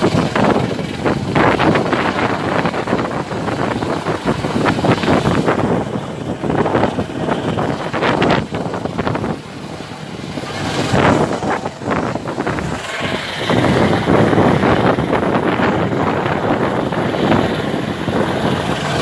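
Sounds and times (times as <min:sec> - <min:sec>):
helicopter flying overhead: 0:00.0 - 0:19.0.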